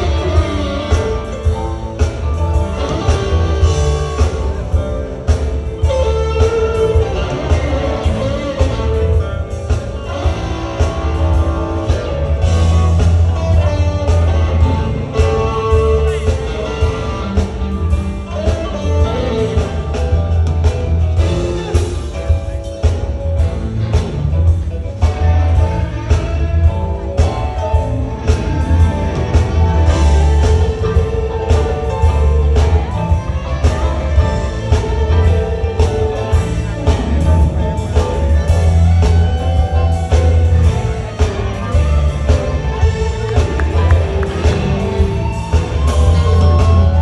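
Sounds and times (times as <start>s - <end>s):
electric guitars soloing: 0.0s - 47.0s
keyboard: 0.0s - 47.0s
steady drumbeat: 0.0s - 47.0s.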